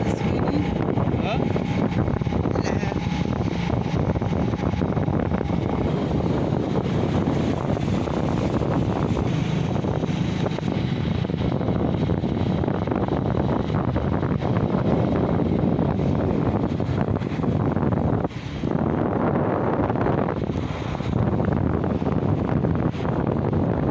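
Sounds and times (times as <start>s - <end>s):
wind blowing across microphone: 0.0s - 23.9s.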